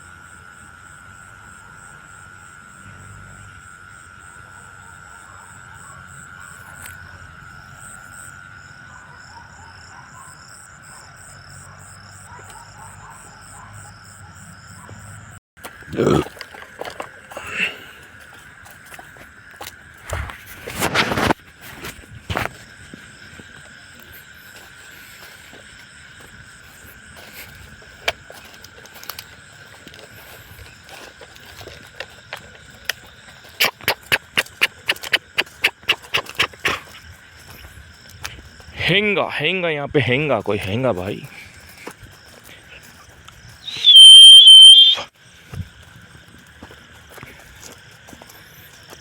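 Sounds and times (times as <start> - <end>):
crickets trilling: 0.0 - 49.0
frogs calling: 0.0 - 49.0
high insect drone: 0.0 - 49.0.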